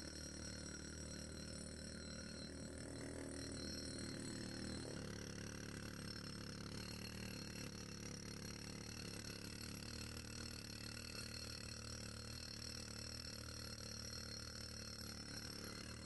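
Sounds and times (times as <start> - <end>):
slowed power tool drone: 0.0 - 16.0.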